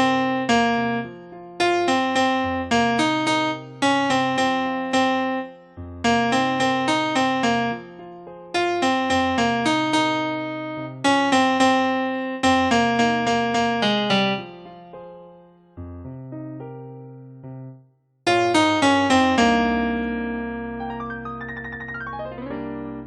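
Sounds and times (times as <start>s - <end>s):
electric piano melody: 0.0s - 23.0s.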